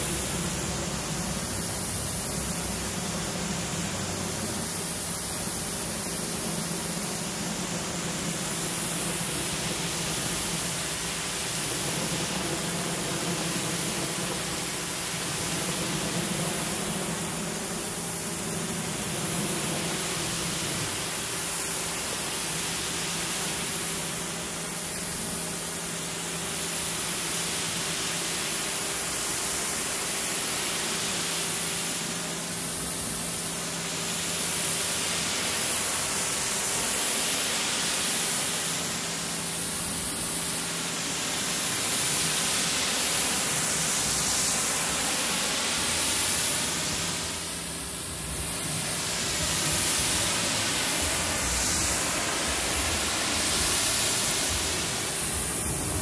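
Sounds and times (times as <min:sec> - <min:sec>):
pressure washer spraying water: 0:00.0 - 0:56.0
steady hum: 0:00.0 - 0:56.0.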